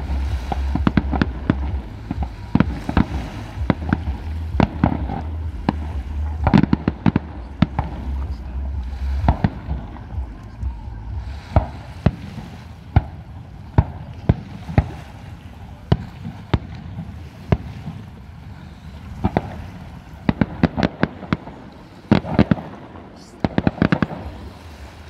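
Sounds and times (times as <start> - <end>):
fireworks bursting with bangs: 0.0 - 25.0.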